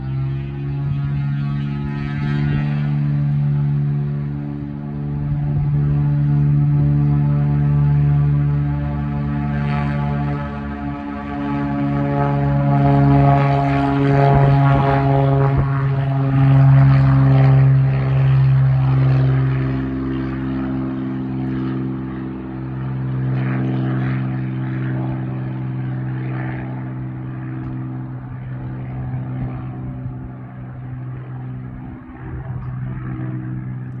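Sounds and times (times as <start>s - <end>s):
propeller plane engine drone: 0.0s - 34.0s.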